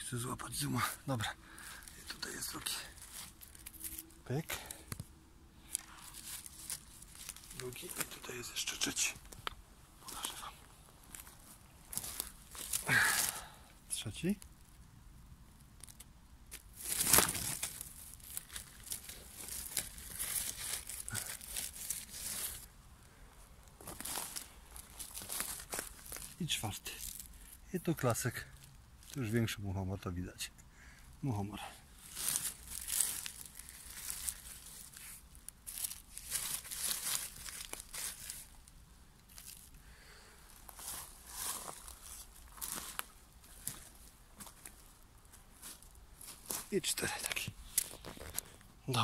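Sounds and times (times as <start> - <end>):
dry leaves and twigs crackling: 0.5 - 29.6, 30.4 - 49.0.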